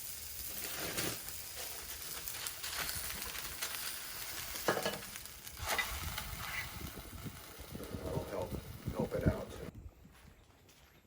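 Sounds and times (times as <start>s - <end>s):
meat sizzling in oil: 0.0s - 9.0s.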